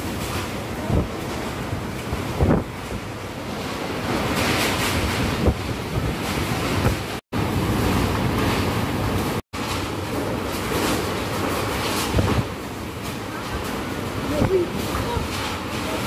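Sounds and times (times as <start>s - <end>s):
strong gusting wind: 0.0s - 16.0s
wind buffeting microphone: 0.0s - 16.0s.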